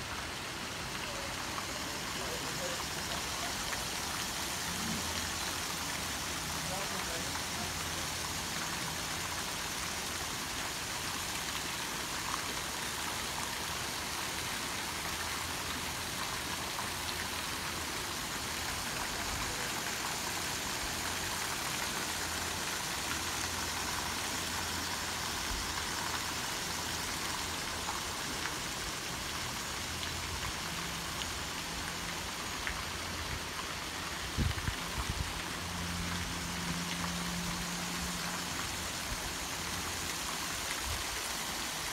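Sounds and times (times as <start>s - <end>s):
fountain water splashing: 0.0s - 41.9s.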